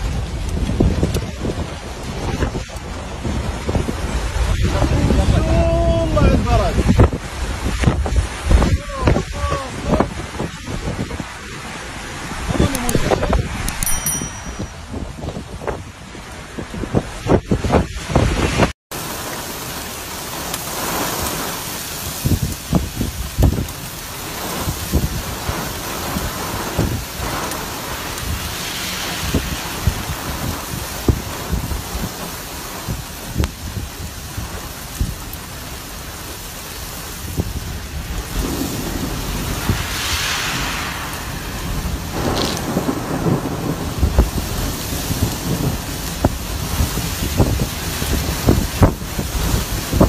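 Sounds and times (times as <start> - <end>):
heavy rain: 0.0 - 13.8, 14.8 - 50.0
gusting wind: 0.0 - 50.0.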